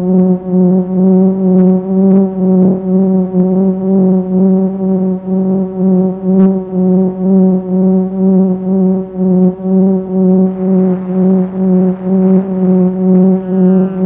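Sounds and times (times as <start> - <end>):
low pulsing drone tone: 0.0 - 14.0.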